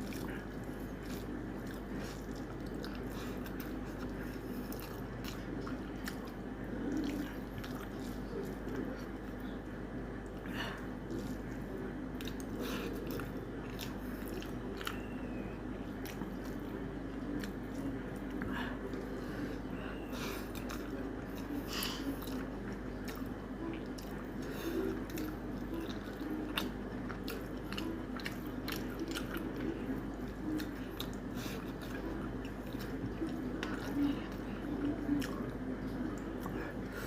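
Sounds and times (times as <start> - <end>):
steady low hum: 0.0 - 37.0
wet chewing mouth sounds: 0.0 - 37.0.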